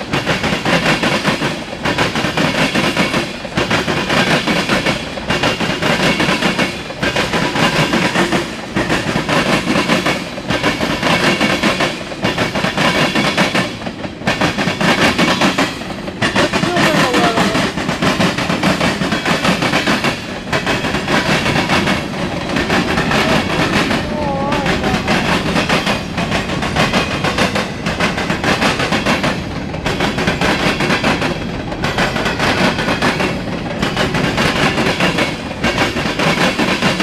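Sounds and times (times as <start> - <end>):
train wheels rumbling on rail: 0.0 - 37.0
wheels clicking over rail joints: 0.0 - 37.0.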